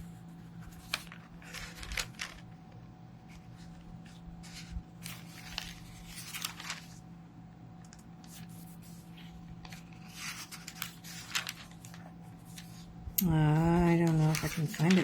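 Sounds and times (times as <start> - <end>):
book pages flipping: 0.0 - 7.1, 7.8 - 15.0
steady low hum: 0.0 - 15.0.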